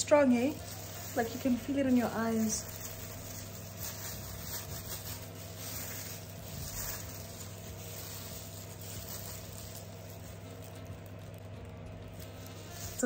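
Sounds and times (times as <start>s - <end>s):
plastic glove rustling through hair: 0.0s - 13.0s
steady low hum: 0.0s - 13.0s.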